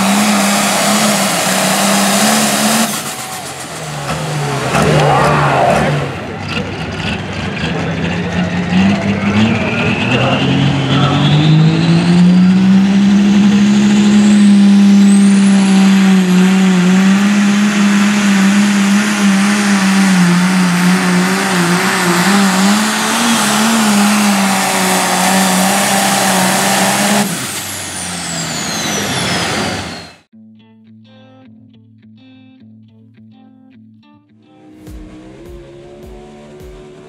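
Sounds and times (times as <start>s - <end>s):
diesel tractor engine at full power: 0.0s - 30.3s, 34.6s - 37.0s
turbo whine: 0.0s - 30.3s, 34.6s - 37.0s.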